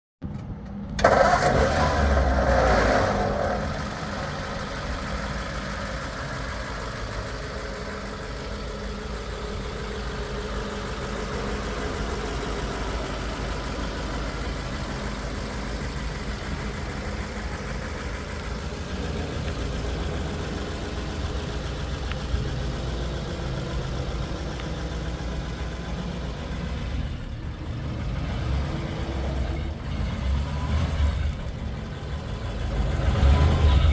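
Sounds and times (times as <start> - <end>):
truck engine starting and idling: 0.2 - 33.9.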